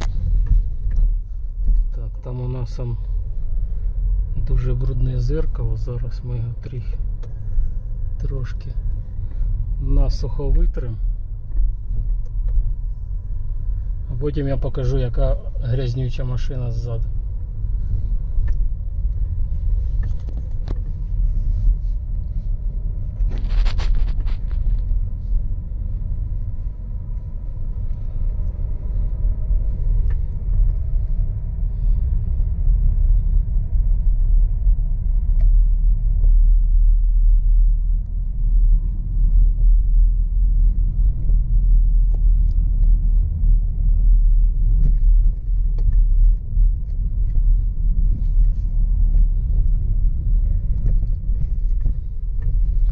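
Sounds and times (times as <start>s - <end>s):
tyres and suspension rumbling: 0.0s - 52.9s.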